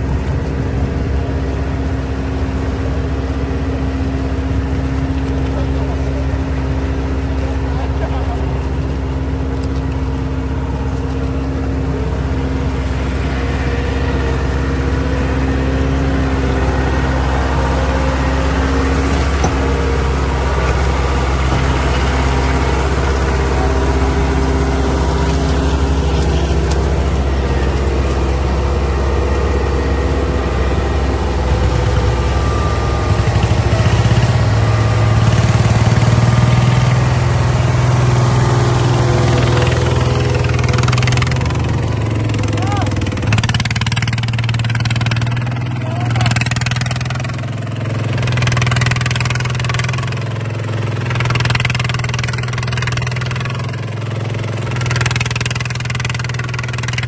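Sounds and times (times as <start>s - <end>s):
bulldozer engine running: 0.0s - 57.0s.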